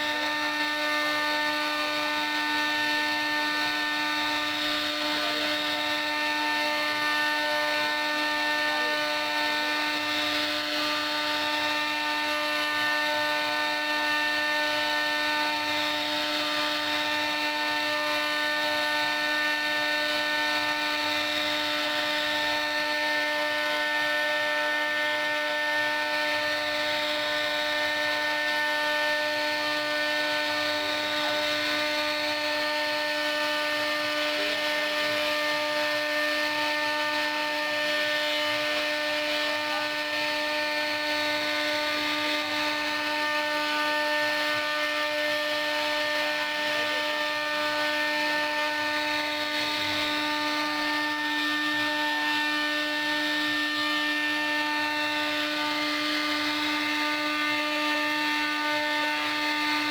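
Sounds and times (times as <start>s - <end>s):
router spindle whine: 0.0s - 59.9s.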